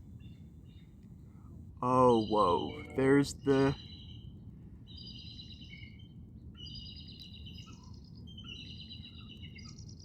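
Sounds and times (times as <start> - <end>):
low steady background noise: 0.0 - 10.0
songbirds chirping: 0.0 - 10.0.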